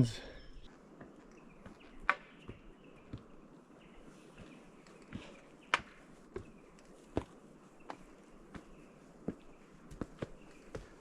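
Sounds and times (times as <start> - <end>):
faint outdoor background: 0.0 - 11.0
footsteps crunching on a track: 0.8 - 11.0.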